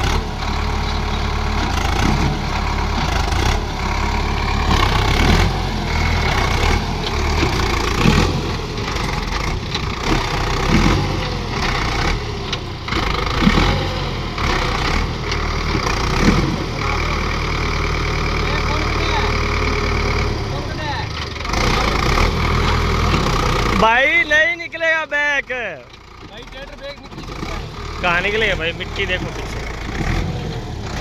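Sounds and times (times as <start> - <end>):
tractor diesel engine straining: 0.0 - 31.0.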